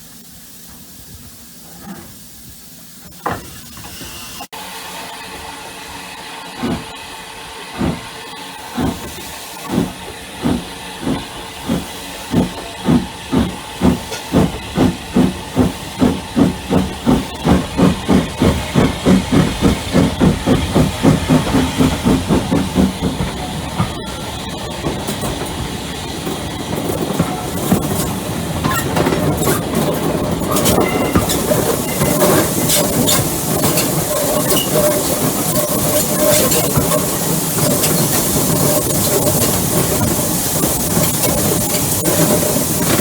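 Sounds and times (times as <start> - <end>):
rush of steam: 0.0 - 43.0
steam locomotive exhaust beats: 0.0 - 43.0.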